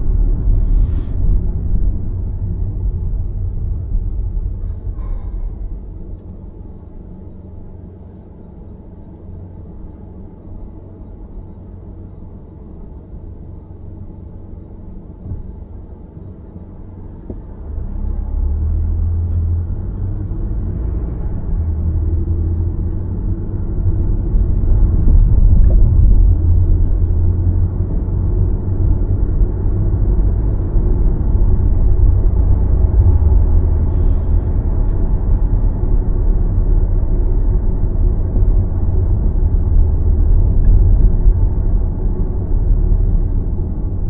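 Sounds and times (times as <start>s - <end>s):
car road rumble: 0.0s - 44.0s.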